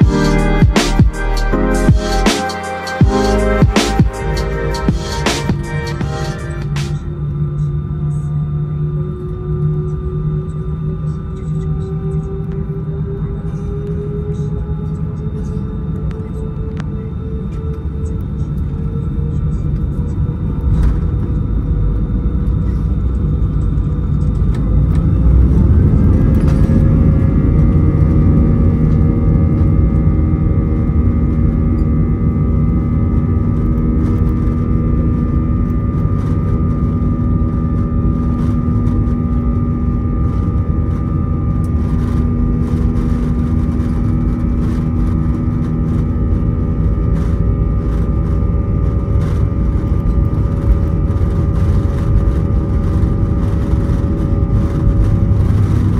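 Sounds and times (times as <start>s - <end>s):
jet engines whining and rumbling: 0.0s - 55.9s.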